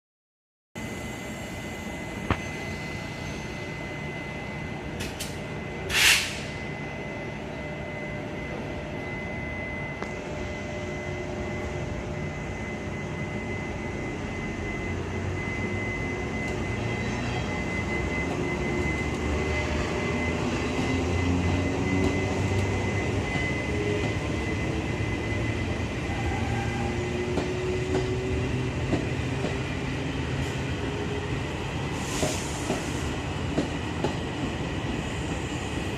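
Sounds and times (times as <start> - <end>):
train running: 0.8 - 35.9.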